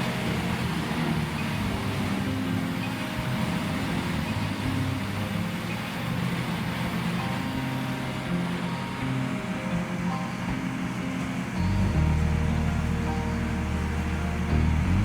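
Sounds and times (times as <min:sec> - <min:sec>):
wood chipper engine drone: 0:00.0 - 0:15.0.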